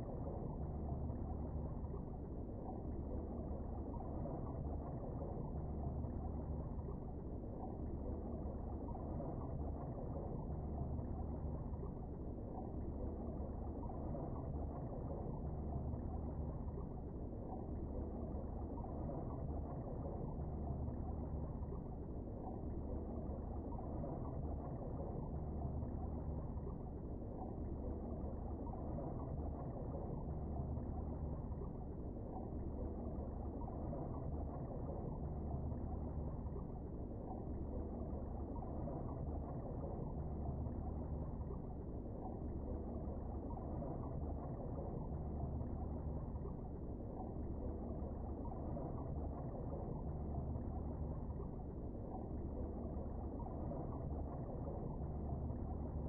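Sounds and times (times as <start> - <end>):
constant low hum: 0.0 - 56.0
muffled underwater rumble: 0.0 - 56.0.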